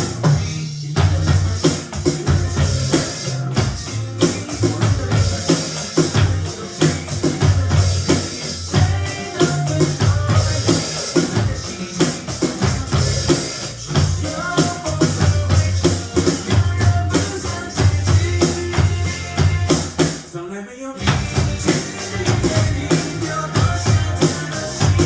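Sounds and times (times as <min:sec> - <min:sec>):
drum kit playing: 0:00.0 - 0:20.4, 0:21.0 - 0:25.0
pop-rock backing track: 0:00.0 - 0:20.4, 0:21.0 - 0:25.0.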